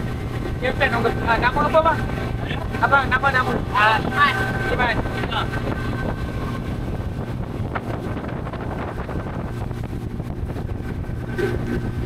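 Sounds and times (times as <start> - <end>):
motorboat engine running: 0.0 - 12.0
wind on microphone: 0.0 - 12.0.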